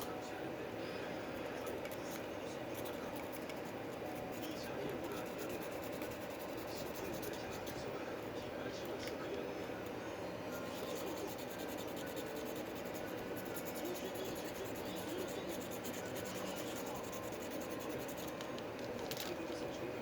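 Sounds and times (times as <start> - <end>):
steady low hum: 0.0 - 20.0
light rapid scratching: 1.3 - 9.4, 10.6 - 19.9.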